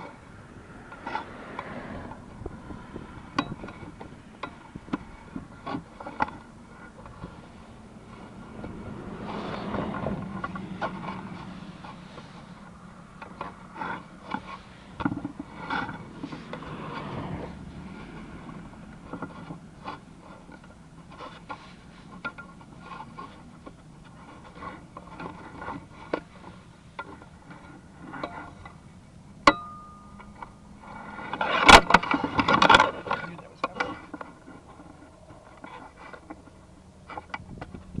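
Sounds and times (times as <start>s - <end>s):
steady low hum: 0.0s - 38.0s
knocks and scrapes in pipe: 0.8s - 28.8s, 30.3s - 38.0s.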